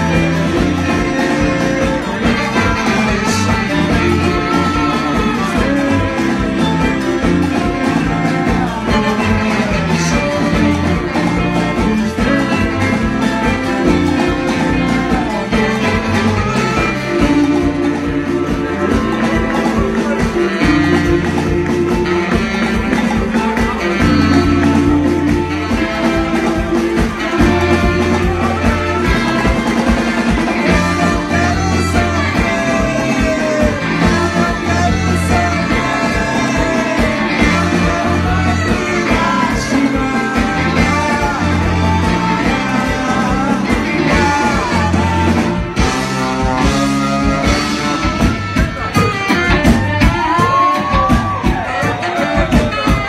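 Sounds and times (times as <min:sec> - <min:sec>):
live band playing: 0:00.0 - 0:53.0
repeating bass line: 0:00.0 - 0:53.0.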